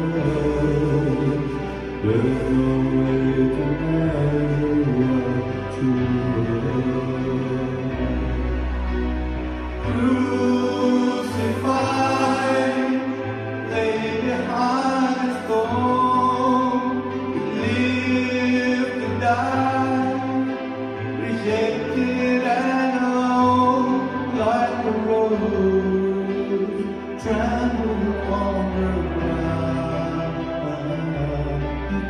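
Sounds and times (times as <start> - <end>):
electronic keyboard chords: 0.0 - 32.0
worship team singing: 0.0 - 32.0.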